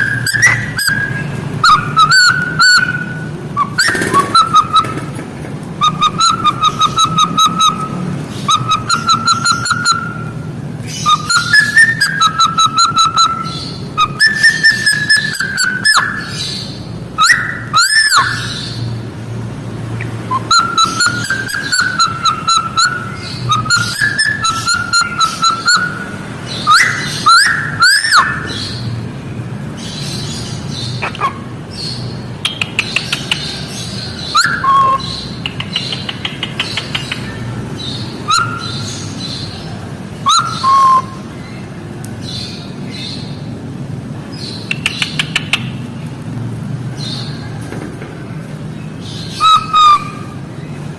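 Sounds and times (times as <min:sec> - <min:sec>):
songbird singing: 0:00.0 - 0:50.9.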